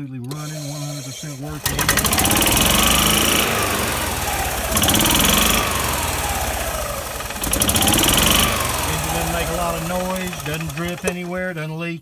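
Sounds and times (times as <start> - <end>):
golf cart engine revving: 0.2 - 11.8.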